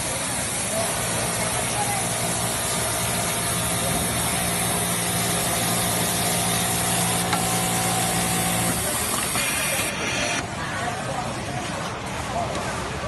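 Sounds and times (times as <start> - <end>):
industrial sewing machine humming: 0.0 - 10.6.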